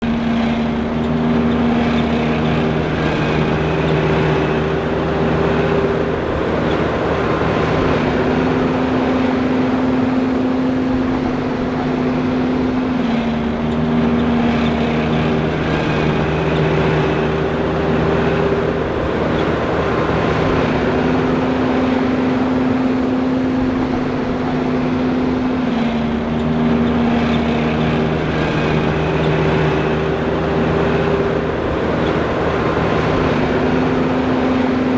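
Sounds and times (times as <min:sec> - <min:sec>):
forage harvester machine roar: 0:00.0 - 0:34.9.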